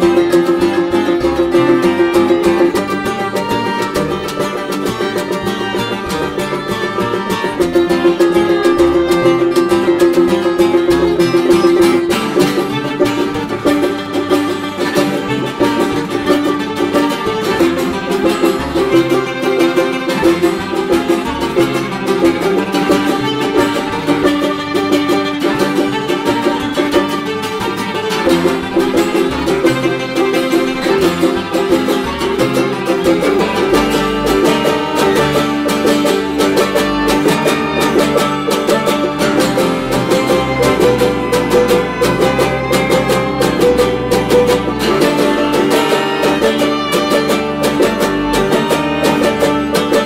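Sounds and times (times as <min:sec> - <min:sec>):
fast-picked acoustic strings: 0:00.0 - 0:50.0.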